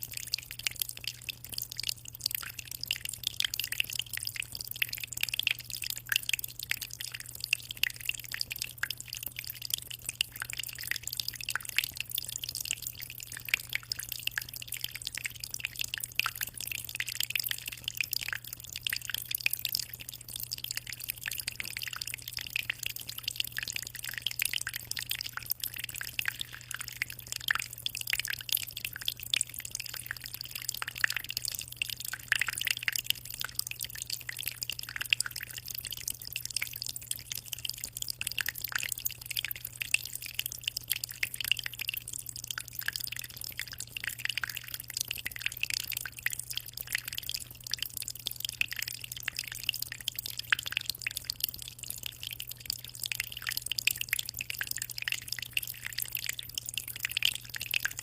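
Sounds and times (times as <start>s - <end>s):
aquarium water trickling and splashing: 0.0s - 58.0s.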